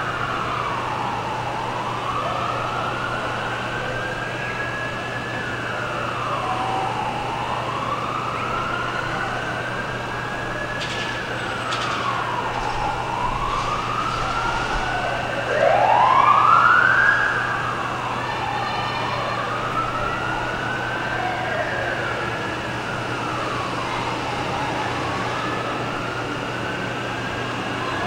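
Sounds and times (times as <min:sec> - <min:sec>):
emergency sirens wailing: 0:00.0 - 0:28.0.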